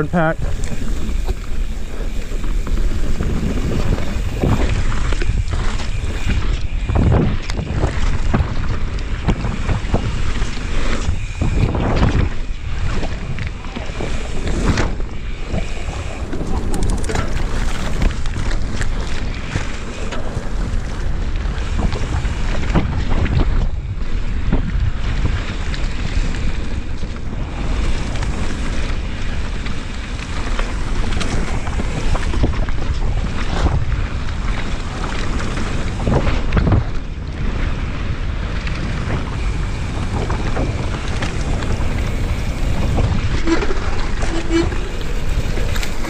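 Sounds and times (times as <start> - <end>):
bicycle drivetrain rattle: 0.0 - 46.0
tyres rumbling on dirt trail: 0.0 - 46.0
wind buffeting microphone: 0.0 - 46.0.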